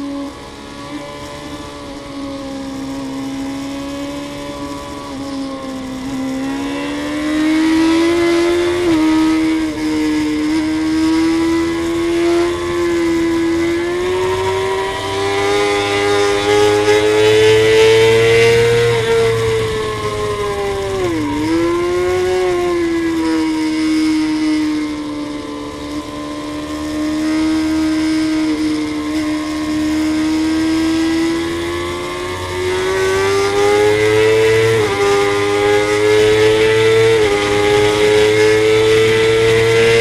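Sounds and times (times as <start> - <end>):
motorcycle engine at high revs: 0.0 - 40.0.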